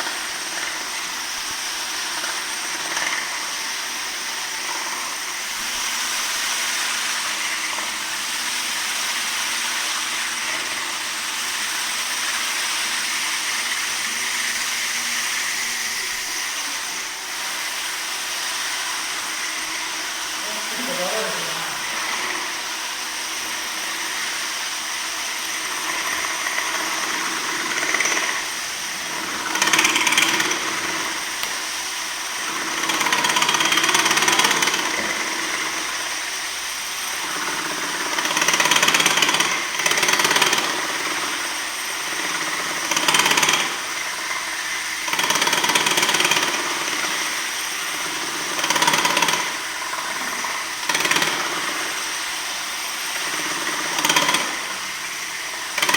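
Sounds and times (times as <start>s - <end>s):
power tool grinding marble floor: 0.0s - 55.9s.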